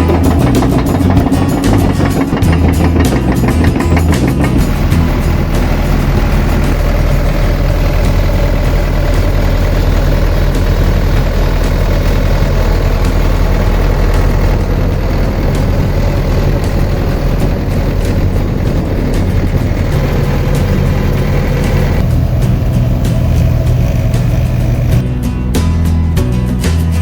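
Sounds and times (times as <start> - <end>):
excavator diesel engine idling: 0.0 - 25.2.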